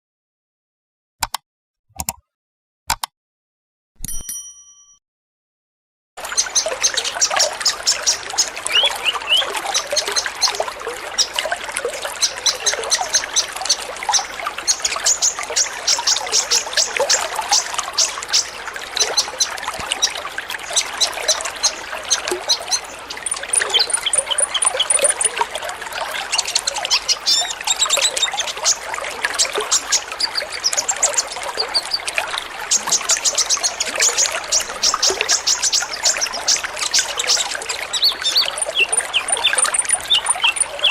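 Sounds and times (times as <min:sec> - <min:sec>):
birds chirping and twittering: 0:06.2 - 0:40.9.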